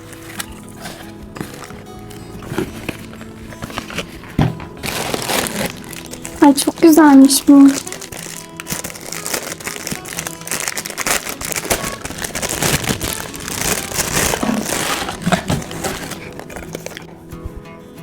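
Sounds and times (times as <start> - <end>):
packaging crinkling: 0.0 - 17.7
soft background music: 0.0 - 18.0.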